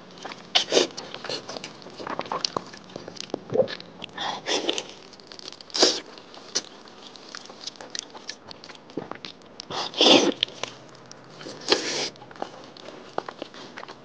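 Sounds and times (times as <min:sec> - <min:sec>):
wet chewing and biting: 0:00.0 - 0:14.0.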